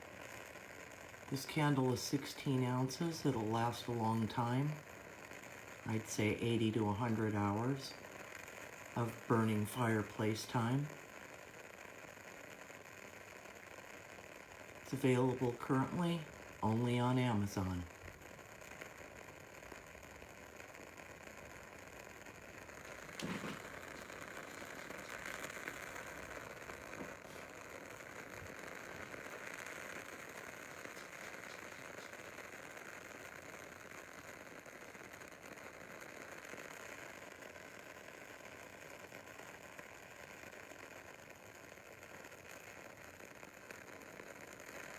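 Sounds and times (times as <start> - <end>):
candle wicks crackling: 0.0 - 44.9
soft hiss: 0.0 - 44.9.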